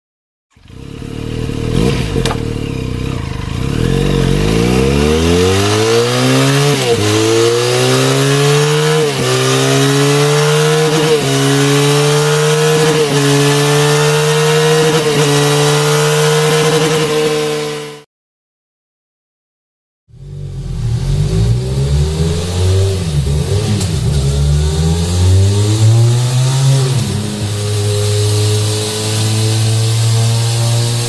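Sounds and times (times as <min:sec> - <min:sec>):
motorcycle engine revving: 0:00.5 - 0:18.0, 0:20.1 - 0:31.0.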